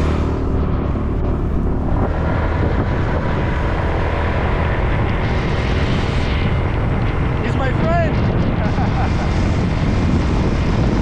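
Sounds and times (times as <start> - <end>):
motorcycle engine running: 0.0 - 11.0
wind rushing: 0.0 - 11.0.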